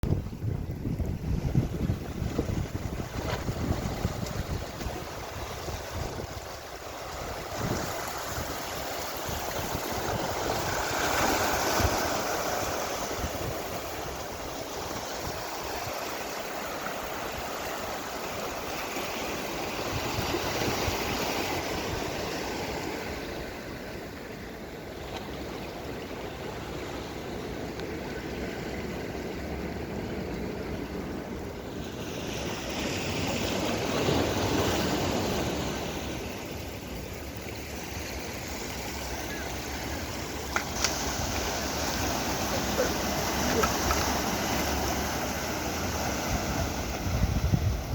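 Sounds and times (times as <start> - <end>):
sea waves washing onto shore: 0.0 - 47.9.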